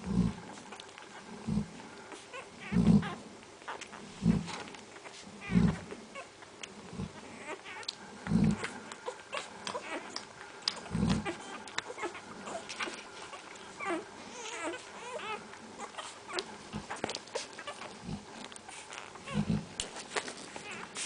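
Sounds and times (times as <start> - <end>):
puppies whimpering and squeaking: 2.1 - 21.0.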